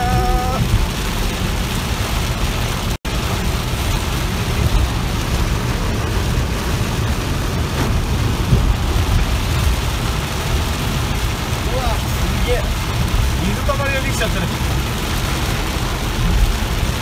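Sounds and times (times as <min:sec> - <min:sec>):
heavy rain pounding on car: 0:00.0 - 0:17.0.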